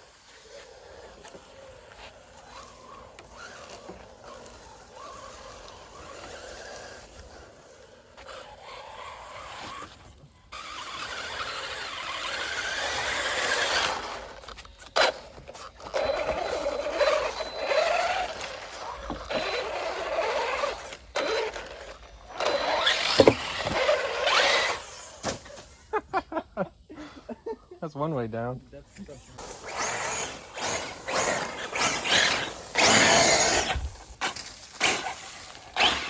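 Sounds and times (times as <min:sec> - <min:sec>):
rc car motor whine: 0:00.0 - 0:25.8, 0:28.9 - 0:36.0
tyres scrabbling on dirt: 0:00.0 - 0:25.9, 0:28.9 - 0:36.0.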